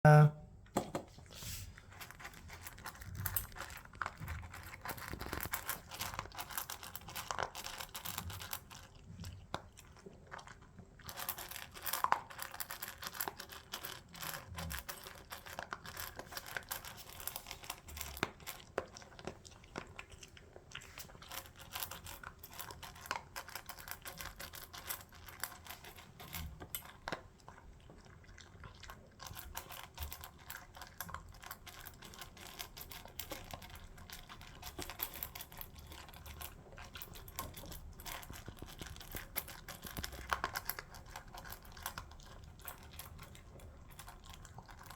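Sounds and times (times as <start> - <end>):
dog eating food greedily: 1.2 - 44.9.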